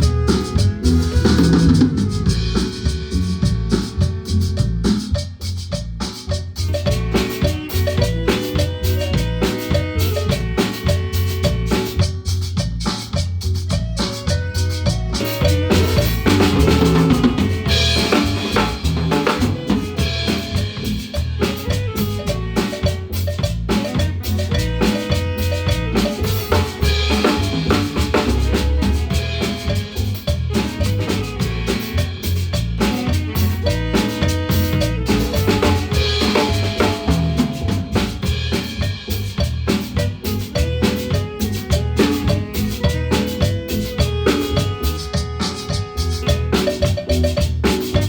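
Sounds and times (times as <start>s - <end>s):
bass drum and snare beat: 0.0s - 48.0s
marimba band playing: 0.0s - 48.0s.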